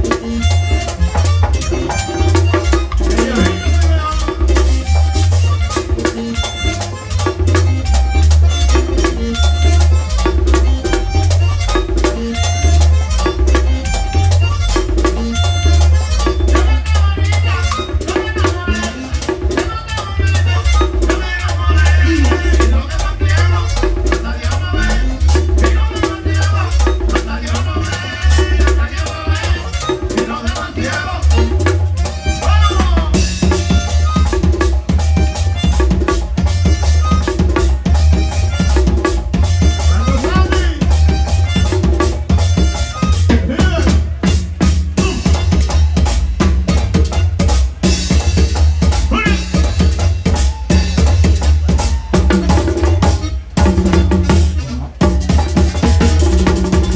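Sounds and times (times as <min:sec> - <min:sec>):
band playing dance music: 0:00.0 - 0:56.9
pulsing bass line: 0:00.0 - 0:56.9.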